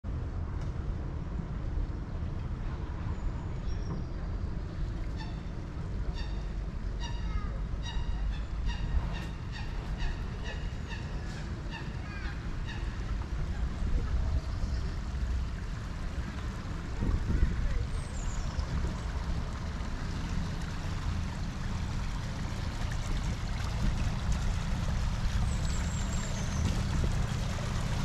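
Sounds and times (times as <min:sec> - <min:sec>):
steady low rumble: 0:00.0 - 0:28.0
water birds calling: 0:02.9 - 0:28.0.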